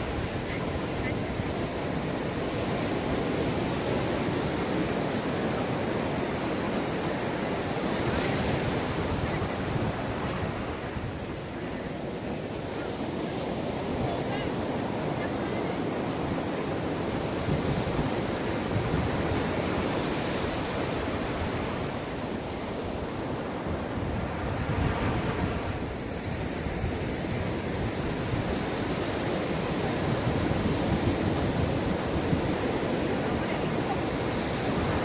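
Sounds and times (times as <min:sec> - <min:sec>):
sea waves breaking on shore: 0:00.0 - 0:35.0.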